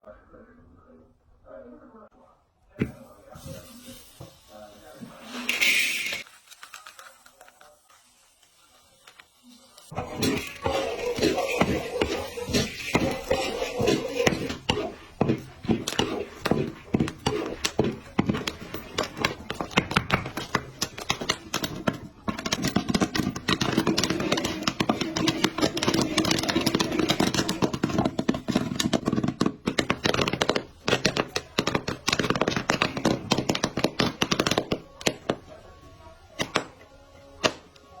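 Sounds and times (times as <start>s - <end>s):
popcorn popping: 5.4s - 35.7s, 36.3s - 38.0s.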